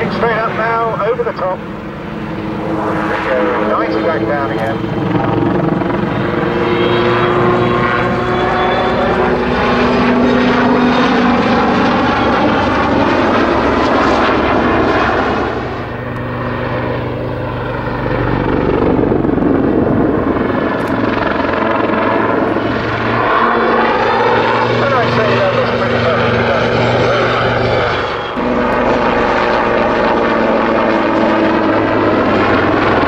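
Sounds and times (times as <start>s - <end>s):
helicopter rotor and turbine: 0.0s - 33.0s.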